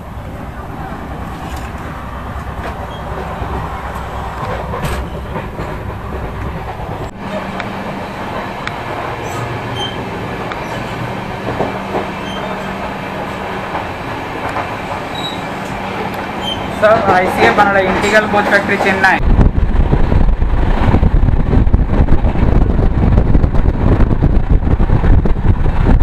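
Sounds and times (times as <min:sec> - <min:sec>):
rumble of train wheels on track: 0:00.0 - 0:26.0.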